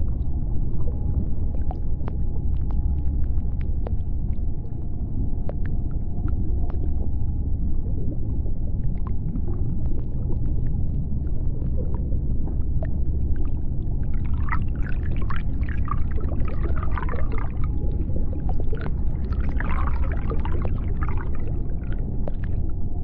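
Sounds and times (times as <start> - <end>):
underwater low rumble: 0.0 - 23.0.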